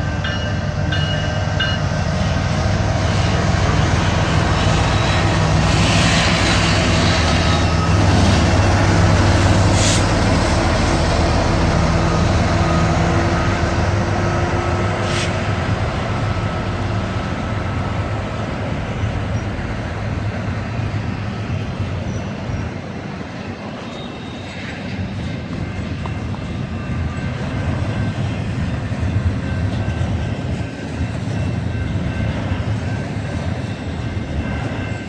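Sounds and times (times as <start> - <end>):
diesel locomotive engines droning: 0.0 - 35.0
rumble of rolling train wheels: 0.0 - 35.0.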